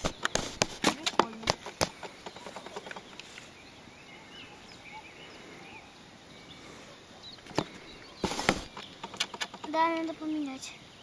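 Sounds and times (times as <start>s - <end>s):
noisy rustle: 0.0s - 4.0s, 5.2s - 11.0s
faint bird chirps: 0.0s - 11.0s.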